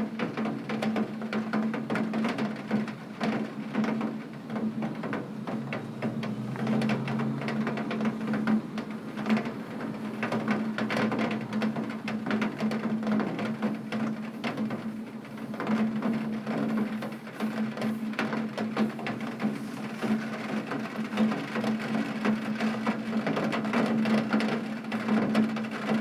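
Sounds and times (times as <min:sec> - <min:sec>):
heavy rain on a window: 0:00.0 - 0:26.0.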